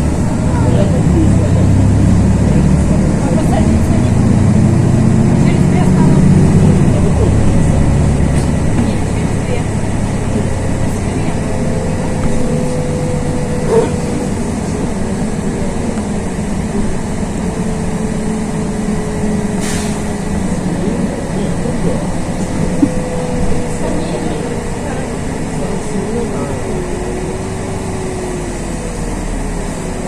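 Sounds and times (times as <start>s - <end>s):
bus engine and road drone: 0.0s - 30.0s.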